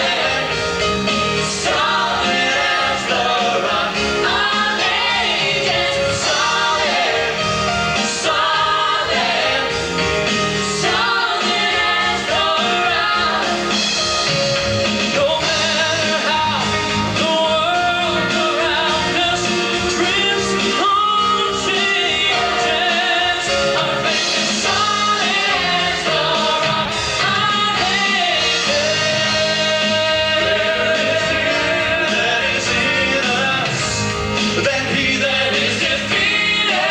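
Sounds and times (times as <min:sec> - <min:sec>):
instrumental backing: 0:00.0 - 0:36.9.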